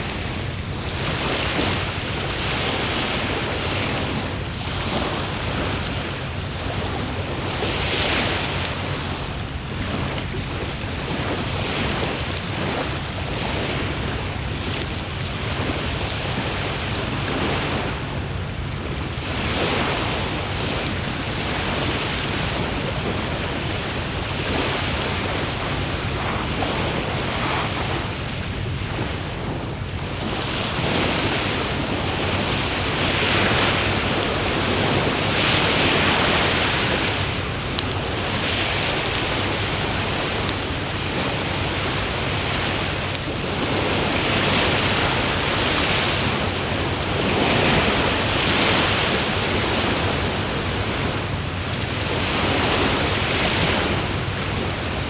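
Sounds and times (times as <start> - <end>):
fire crackles and pops: 0.0 - 45.4
campfire flames rushing: 0.0 - 55.0.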